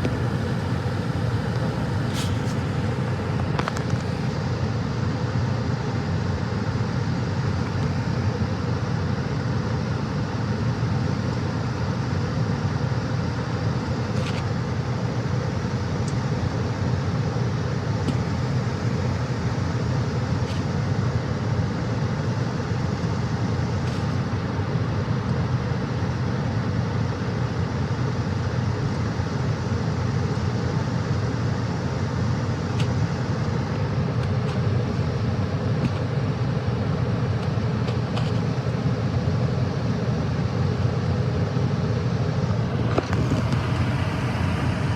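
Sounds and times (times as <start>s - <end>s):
furnace humming and rumbling: 0.0s - 44.9s.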